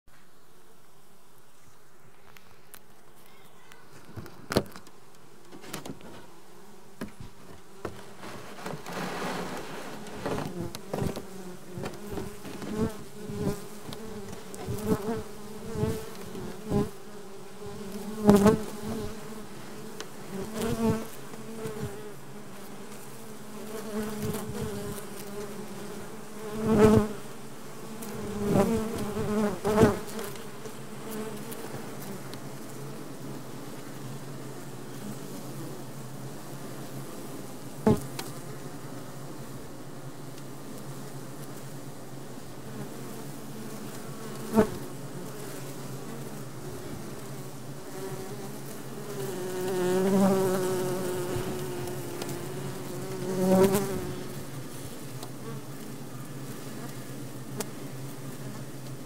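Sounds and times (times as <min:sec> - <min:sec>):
honeybee colony humming: 0:00.1 - 0:59.0
bees buzzing close: 0:00.3 - 0:59.0.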